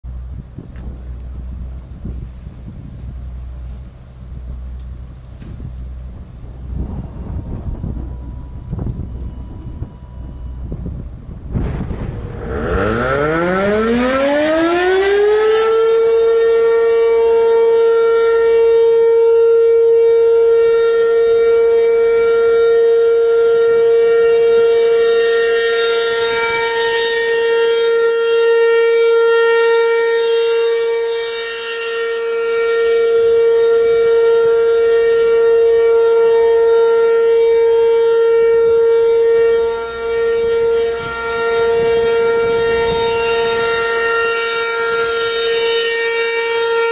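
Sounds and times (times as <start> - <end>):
outdoor warning siren: 0.0 - 46.9.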